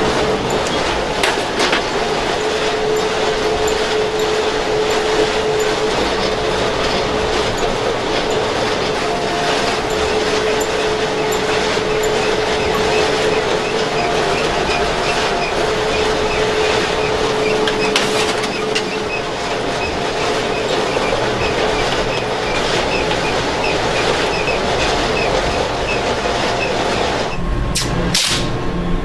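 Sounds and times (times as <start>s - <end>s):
loud mechanical running noise: 0.0s - 29.0s.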